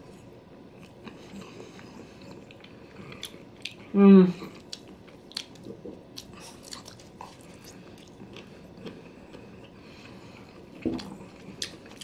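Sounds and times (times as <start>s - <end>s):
person chewing: 0.8s - 12.0s.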